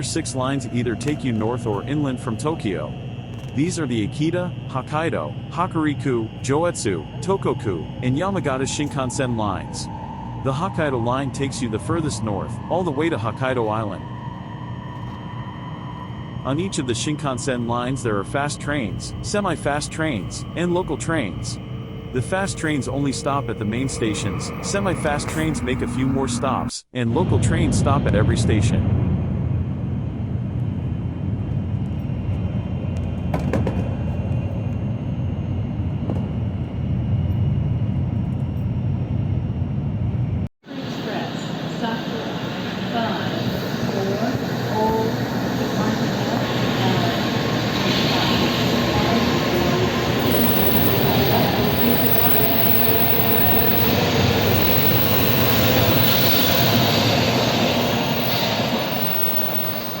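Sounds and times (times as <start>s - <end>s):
train rumbling: 0.0s - 60.0s.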